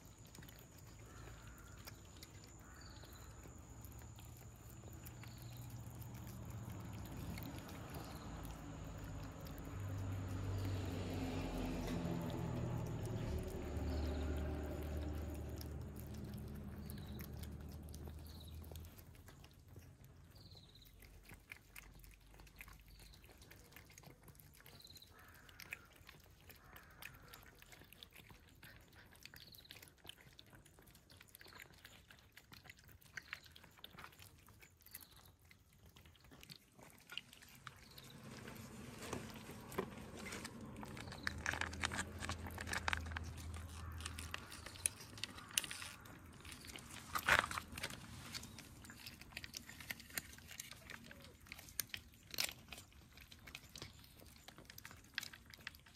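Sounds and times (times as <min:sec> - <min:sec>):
cats chewing and crunching food: 0:00.0 - 0:55.9.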